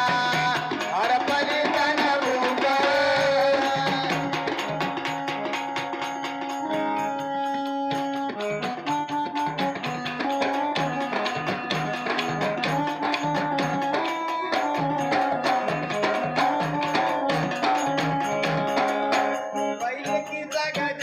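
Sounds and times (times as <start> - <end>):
hand drum rhythm: 0.0 - 21.0
electronic keyboard melody: 3.8 - 21.0.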